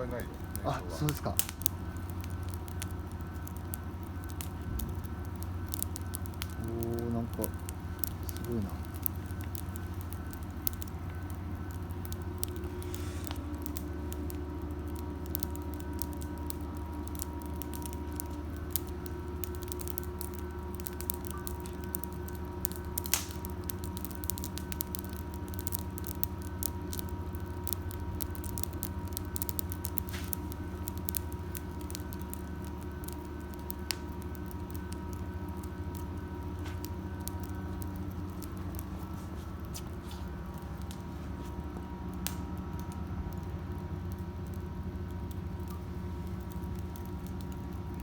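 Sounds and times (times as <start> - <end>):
steady low hum: 0.0 - 48.0
wood fire crackling: 0.0 - 48.0.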